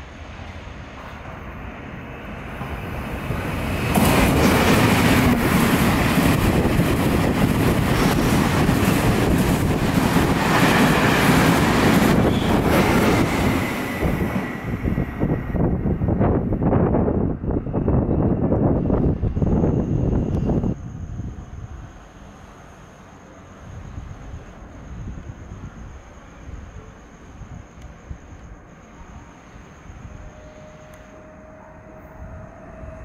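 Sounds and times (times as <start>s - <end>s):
passenger train passing at speed: 0.0s - 33.0s.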